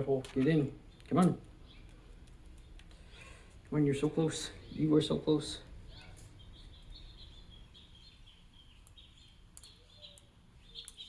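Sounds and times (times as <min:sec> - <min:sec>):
bird chirping: 0:00.7 - 0:03.4, 0:04.4 - 0:11.0.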